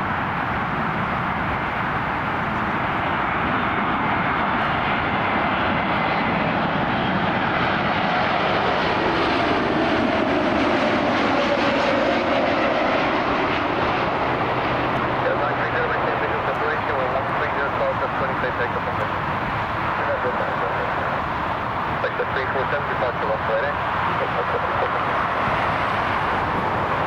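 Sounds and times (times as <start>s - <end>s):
jet airliner engine passing: 0.0s - 27.0s.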